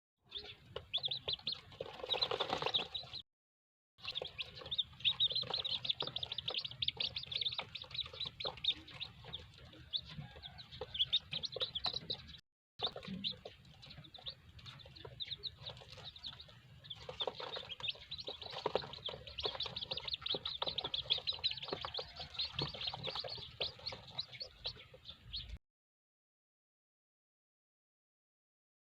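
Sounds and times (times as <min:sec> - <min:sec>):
chicks peeping: 0:00.2 - 0:03.2, 0:04.0 - 0:25.6.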